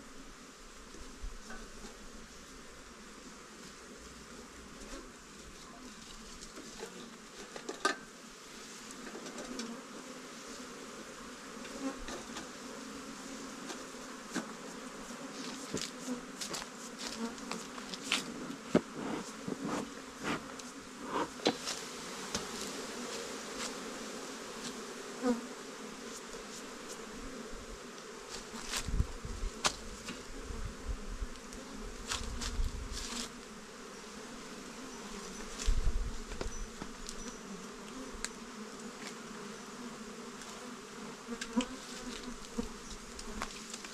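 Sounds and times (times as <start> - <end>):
bees buzzing: 8.1 - 43.9.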